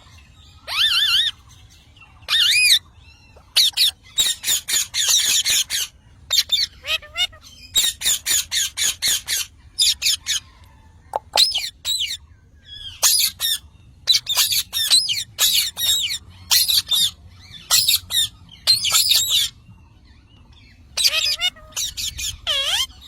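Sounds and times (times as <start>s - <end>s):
parrots calling shrilly: 0.5s - 1.6s, 2.2s - 19.6s, 20.6s - 23.0s.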